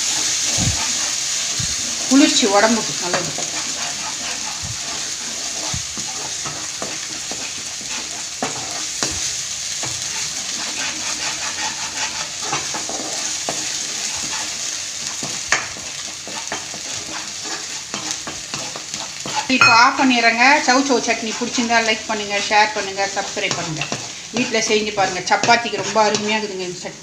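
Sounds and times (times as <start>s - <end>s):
food sizzling in oil: 0.0s - 27.0s
spatula scraping and tapping pan: 0.1s - 26.5s.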